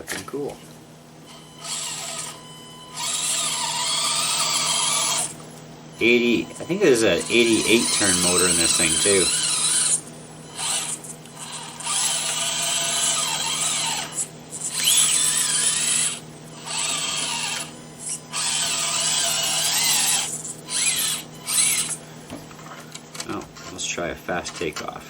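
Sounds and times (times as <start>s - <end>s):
small electric motor whirring: 1.2s - 25.0s.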